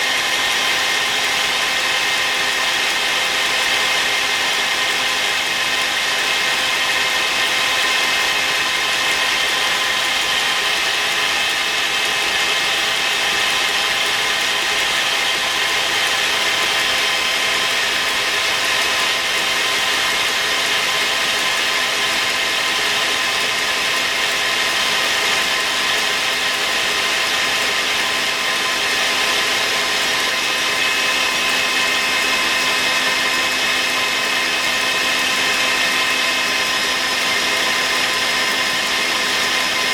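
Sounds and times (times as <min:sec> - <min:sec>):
electric mixer motor whine: 0:00.0 - 0:39.9.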